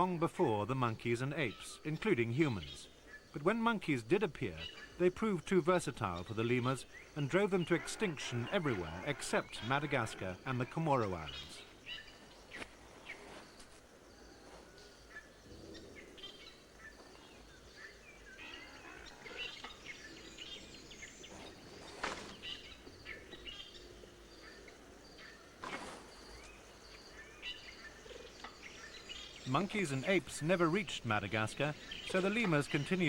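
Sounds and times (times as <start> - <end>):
insect chirr: 0.0 - 33.0
small birds chirping: 0.0 - 33.0.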